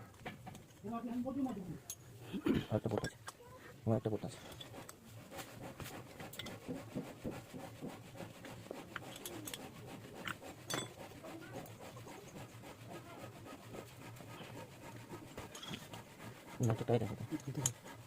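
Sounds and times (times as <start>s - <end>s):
tools rubbing and scraping metal: 2.8s - 18.0s.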